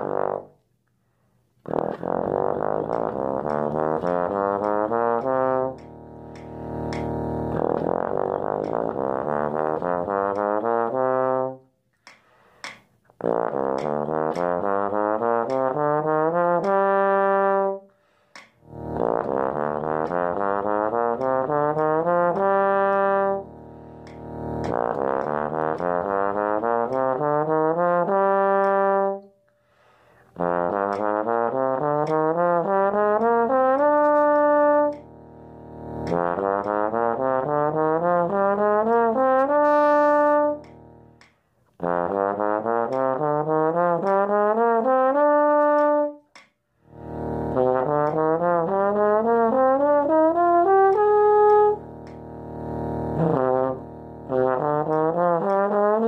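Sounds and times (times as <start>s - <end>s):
bass trombone playing scales: 0.0s - 0.6s, 1.6s - 11.8s, 12.4s - 56.0s.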